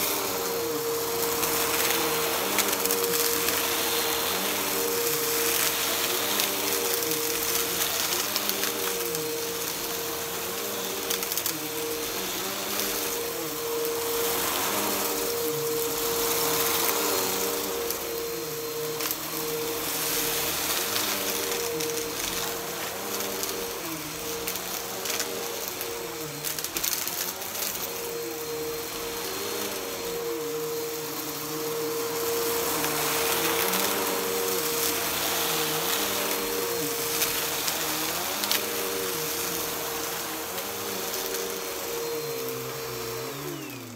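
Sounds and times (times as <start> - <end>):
vacuum cleaner motor whine: 0.0 - 43.9.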